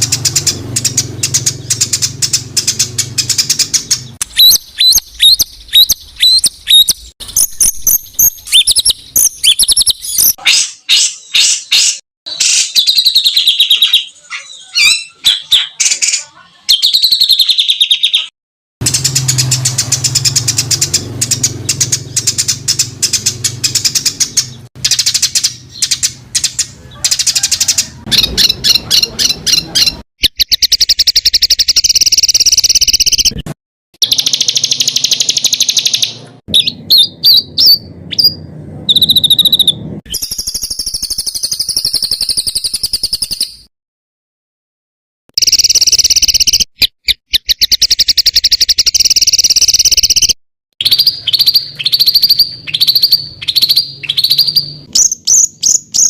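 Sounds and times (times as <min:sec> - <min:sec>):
songbird rapid buzzy trills: 0:00.0 - 0:14.2, 0:18.8 - 0:33.4, 0:34.0 - 0:43.6, 0:45.4 - 0:56.0.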